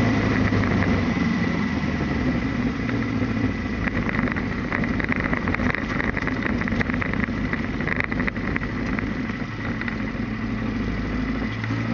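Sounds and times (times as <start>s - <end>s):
constant rushing noise: 0.0s - 11.9s
motorcycle engine running: 0.0s - 11.9s.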